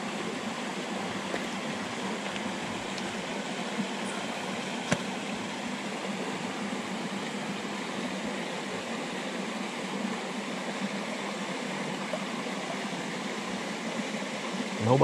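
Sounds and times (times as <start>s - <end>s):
creek water rushing over rock: 0.0s - 15.0s.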